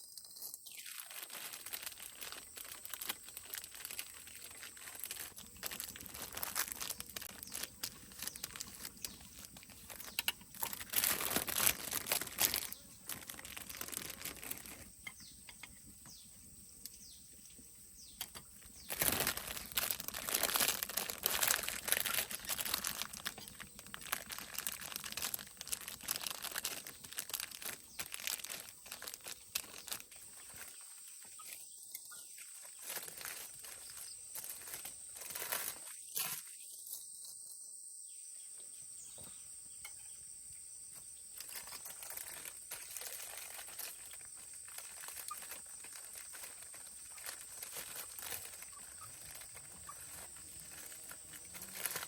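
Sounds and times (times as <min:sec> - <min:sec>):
papery crinkling and rustling: 0:00.7 - 0:14.9, 0:18.2 - 0:31.6, 0:32.4 - 0:36.5, 0:41.4 - 0:52.0.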